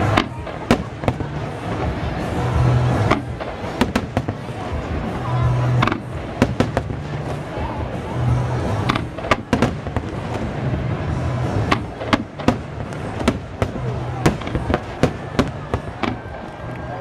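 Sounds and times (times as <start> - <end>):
firework shells bursting: 0.0 - 5.1, 5.7 - 7.6, 8.6 - 10.8, 11.4 - 16.8
background music: 0.0 - 17.0.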